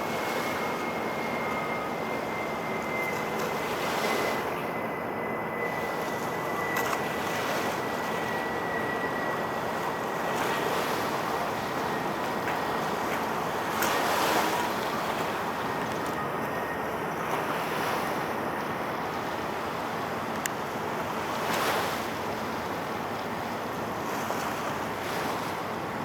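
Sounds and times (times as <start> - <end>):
faint high whine: 0.0 - 26.0
wind: 0.0 - 26.0.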